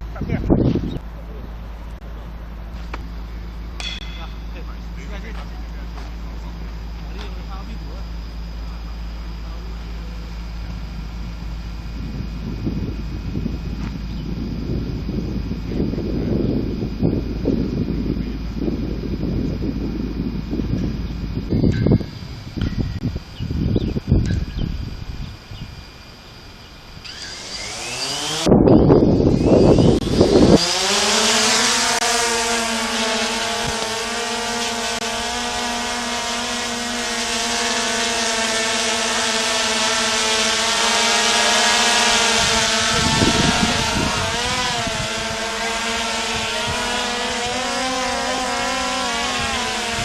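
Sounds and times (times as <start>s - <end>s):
wind noise on microphone: 0.0s - 1.7s, 9.0s - 50.0s
drone propellers buzzing: 0.0s - 50.0s.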